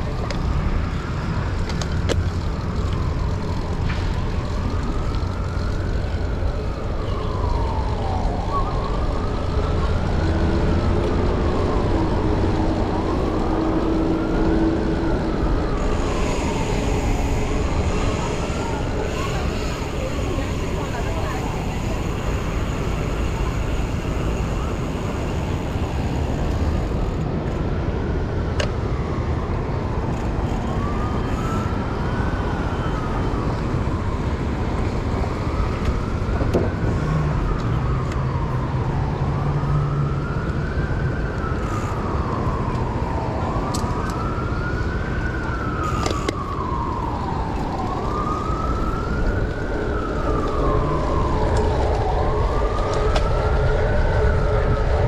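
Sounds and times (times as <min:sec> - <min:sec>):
emergency siren wailing: 0:00.0 - 0:55.0
traffic noise: 0:00.0 - 0:55.0.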